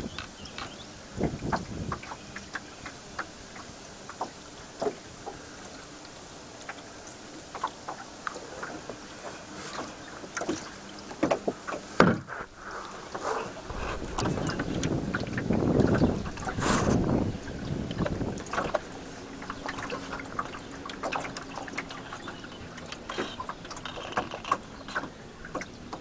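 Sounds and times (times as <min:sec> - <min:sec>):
faint motor hum: 0:00.0 - 0:26.0
water lapping against hull: 0:00.0 - 0:26.0.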